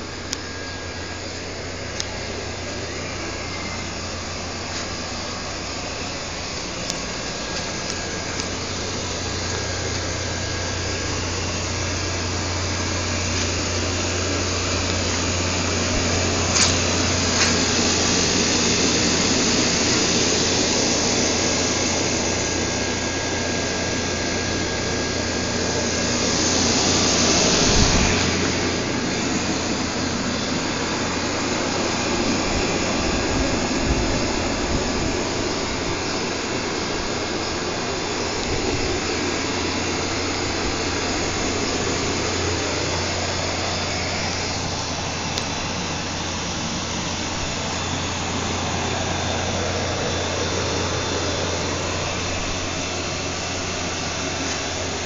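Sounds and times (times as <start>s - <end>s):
machine humming and hissing: 0.0s - 55.0s.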